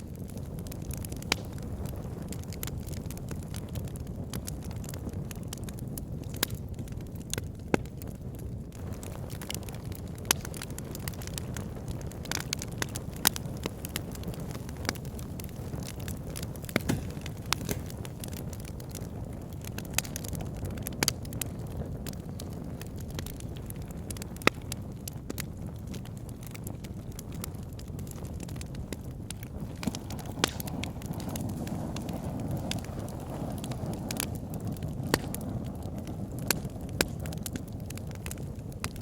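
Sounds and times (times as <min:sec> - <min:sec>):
low rumble of burning logs: 0:00.0 - 0:39.0
wood fire crackling and popping: 0:00.0 - 0:39.0.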